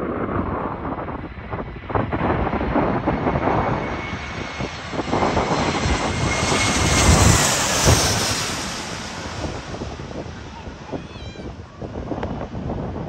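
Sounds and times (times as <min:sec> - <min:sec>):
jet airliner engines: 0:00.0 - 0:13.0
wind buffeting microphone: 0:00.0 - 0:13.0.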